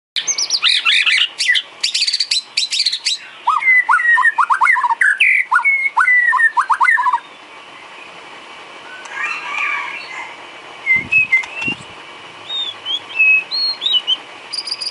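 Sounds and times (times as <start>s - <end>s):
songbird singing: 0.2s - 14.9s.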